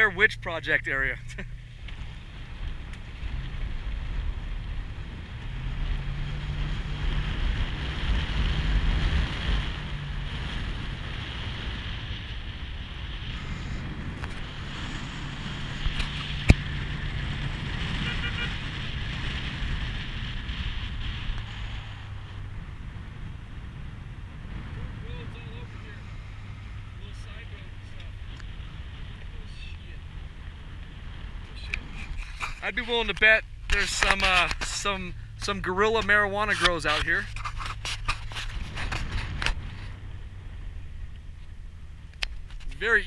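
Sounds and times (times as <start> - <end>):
tyre and road noise: 0.0 - 43.0
vehicle engine drone: 0.0 - 43.0
wind buffeting microphone: 1.8 - 43.0.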